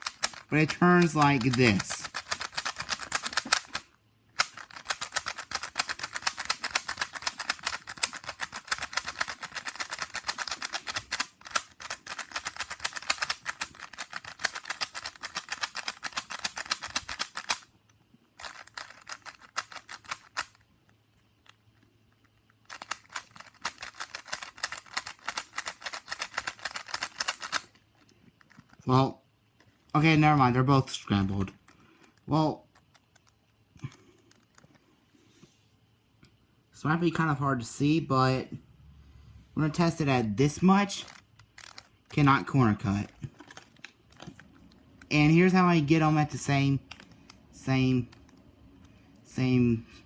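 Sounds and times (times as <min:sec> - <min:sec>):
speed cube clicking turns: 0:00.0 - 0:28.8, 0:31.5 - 0:34.8, 0:40.0 - 0:49.0.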